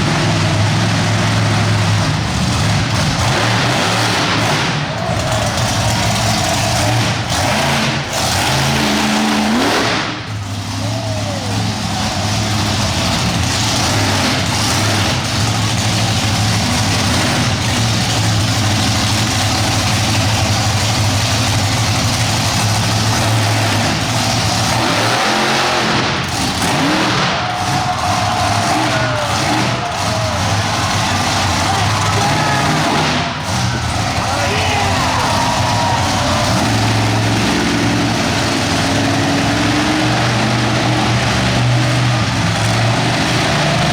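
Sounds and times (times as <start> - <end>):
monster truck engine revving: 0.0 - 43.9.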